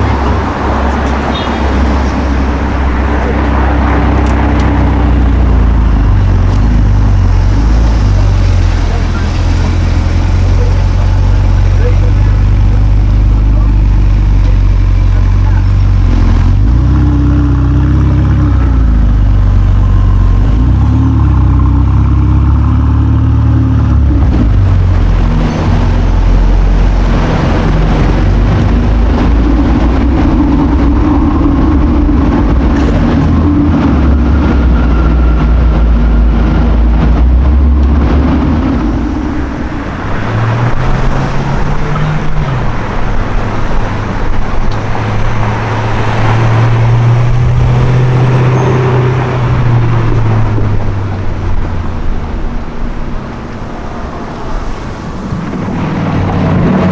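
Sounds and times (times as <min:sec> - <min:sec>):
sports car engine revving: 0:00.0 - 0:56.9
street traffic: 0:00.0 - 0:56.9.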